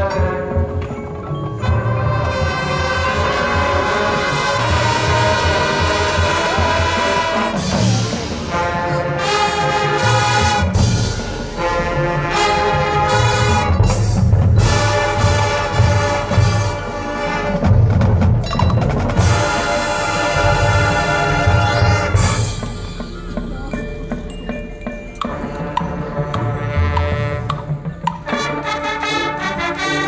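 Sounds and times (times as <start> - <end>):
brass chords: 0.0 - 0.8, 1.6 - 23.7, 25.3 - 30.0
drum and percussion hits: 0.0 - 28.8.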